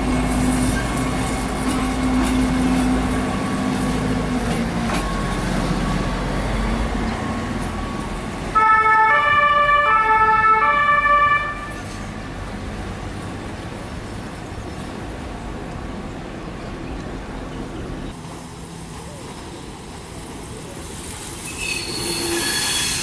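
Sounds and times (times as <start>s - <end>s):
diesel train engine hum: 0.0s - 23.0s.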